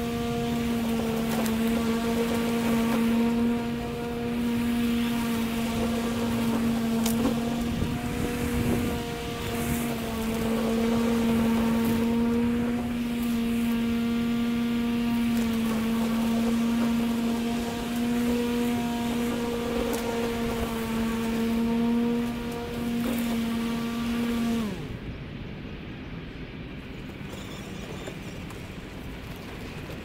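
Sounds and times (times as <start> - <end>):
electric lawn mower humming: 0.0 - 25.1.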